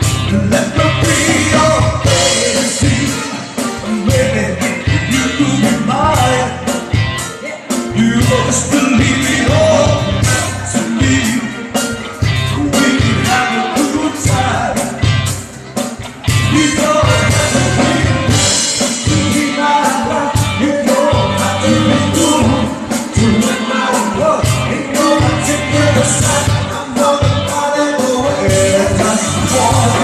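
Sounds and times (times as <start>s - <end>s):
person singing: 0.0s - 15.5s, 16.3s - 30.0s
live band playing: 0.0s - 30.0s.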